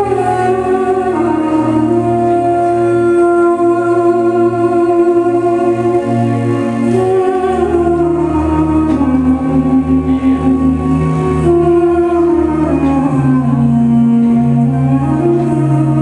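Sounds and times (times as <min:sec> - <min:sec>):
slow instrumental dance music: 0:00.0 - 0:16.0.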